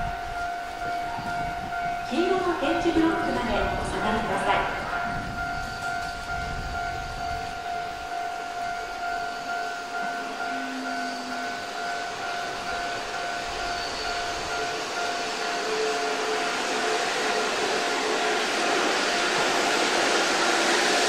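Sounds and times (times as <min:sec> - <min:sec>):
electric train rushing noise: 0:00.0 - 0:21.0
steady high tone: 0:00.0 - 0:21.0.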